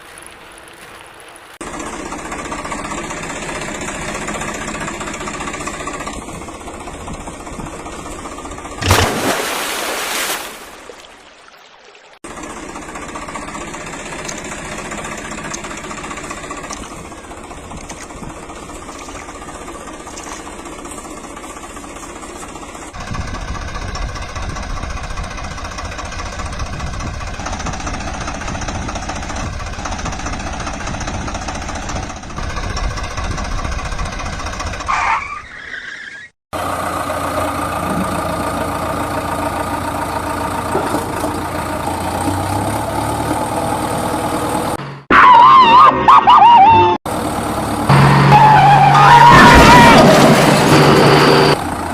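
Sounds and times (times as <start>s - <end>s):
engine running: 0.2s - 11.0s, 12.2s - 34.9s, 36.5s - 51.9s.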